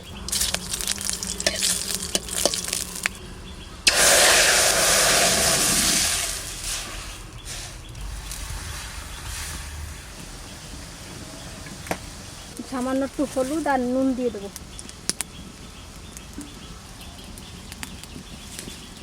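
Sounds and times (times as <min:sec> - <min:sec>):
loud sizzle: 0:00.0 - 0:19.0
seeds crackling in hot oil: 0:00.0 - 0:19.0.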